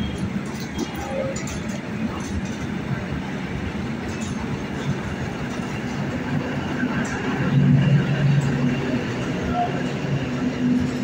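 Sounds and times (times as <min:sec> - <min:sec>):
diesel train engine humming: 0:00.0 - 0:11.0
train coaches rolling on rails: 0:00.0 - 0:11.0.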